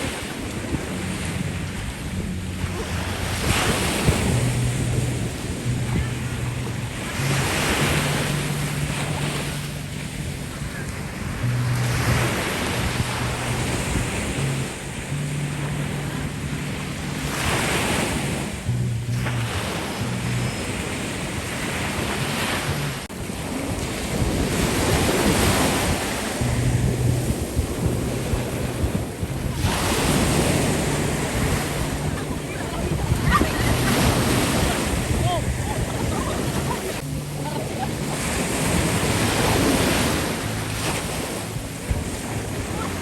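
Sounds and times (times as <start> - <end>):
ocean surf on beach: 0.0 - 43.0
waves breaking: 0.0 - 43.0
wind buffeting microphone: 0.0 - 43.0.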